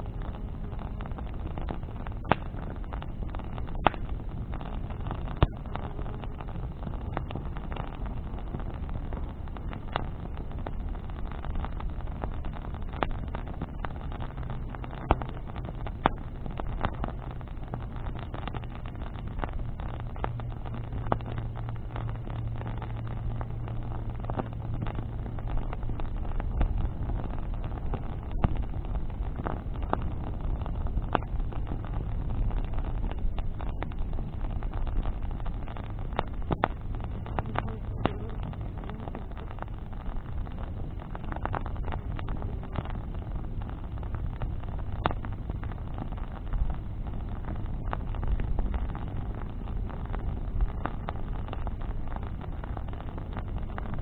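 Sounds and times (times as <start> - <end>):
bonfire crackling and popping: 0.0 - 54.0
low steady rumble and hum: 0.0 - 54.0.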